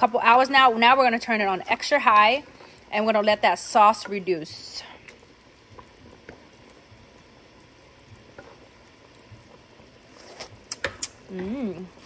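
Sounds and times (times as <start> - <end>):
liquid bubbling in a pot: 0.0 - 12.0.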